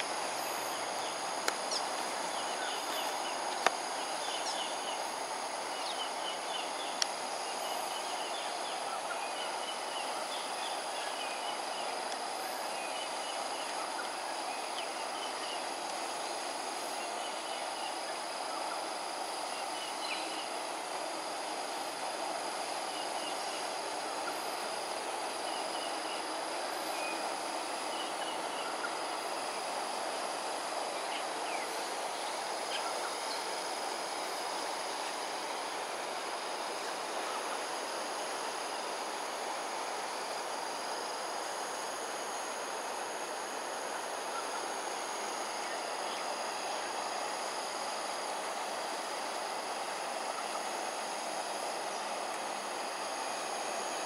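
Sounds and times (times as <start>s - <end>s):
background hum: 0.0s - 54.0s
high insect drone: 0.0s - 54.0s.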